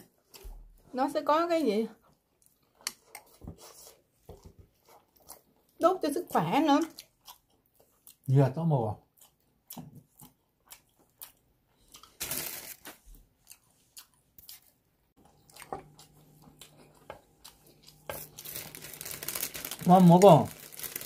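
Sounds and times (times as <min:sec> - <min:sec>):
chewing crunchy toast: 0:02.0 - 0:05.8, 0:06.8 - 0:08.3, 0:09.0 - 0:21.0.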